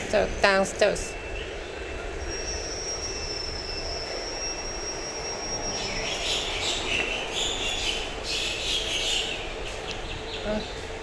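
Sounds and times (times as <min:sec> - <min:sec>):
train high-pitched squeal: 0:00.0 - 0:09.6.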